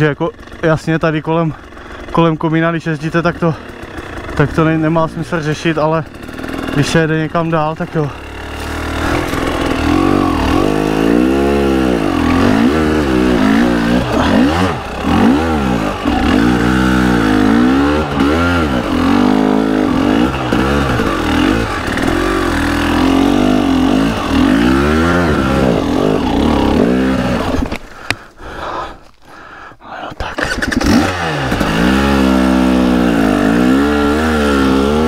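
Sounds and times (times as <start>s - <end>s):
motorcycle engine revving: 0.0s - 28.6s, 30.2s - 35.0s.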